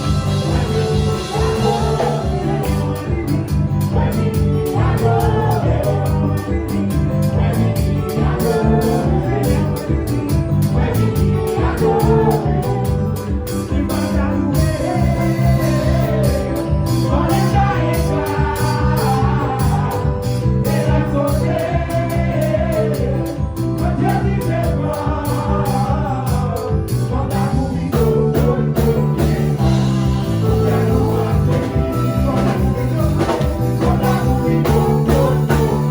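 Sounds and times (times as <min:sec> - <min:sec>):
guitar and bass chords: 0:00.0 - 0:35.9.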